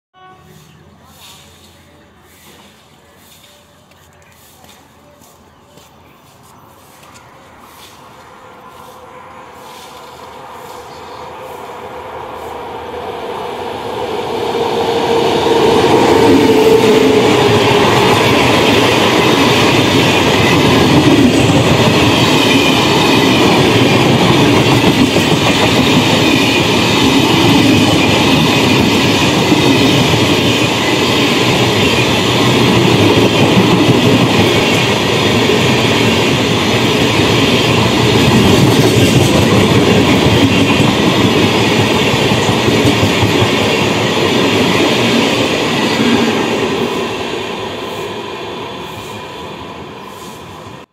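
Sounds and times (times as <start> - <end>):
train wheels rushing on rail: 0.2 - 50.9.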